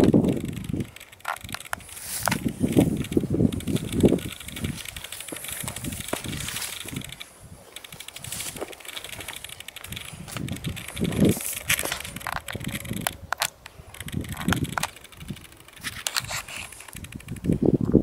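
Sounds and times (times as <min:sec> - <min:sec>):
crackles and clicks: 0:00.0 - 0:17.9
wind buffeting the microphone: 0:00.0 - 0:18.0.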